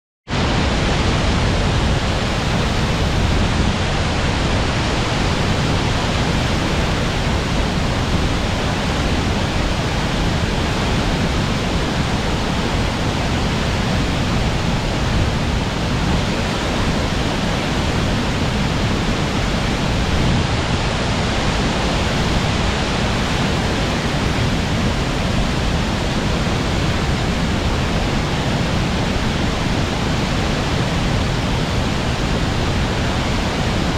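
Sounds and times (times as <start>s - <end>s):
water rushing over a weir: 0.3s - 33.9s.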